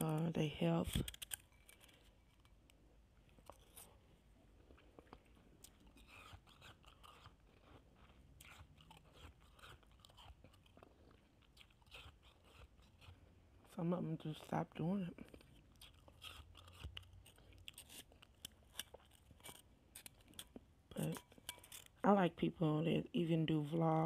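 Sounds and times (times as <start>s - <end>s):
chewing shaved ice: 1.0s - 22.0s.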